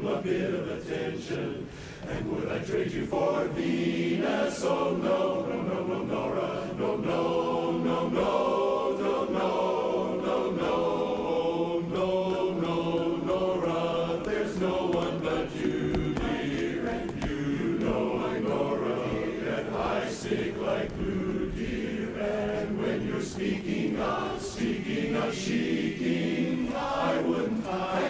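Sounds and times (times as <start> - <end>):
men's chorus singing a cappella: 0.0 - 28.0.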